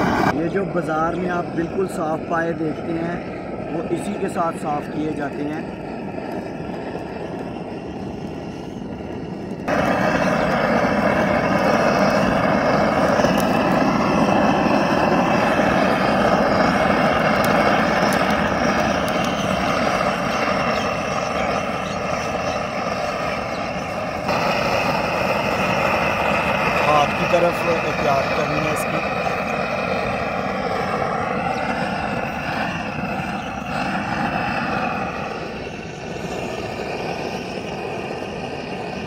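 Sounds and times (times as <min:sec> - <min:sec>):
gas torch flame rushing: 0:00.0 - 0:39.0.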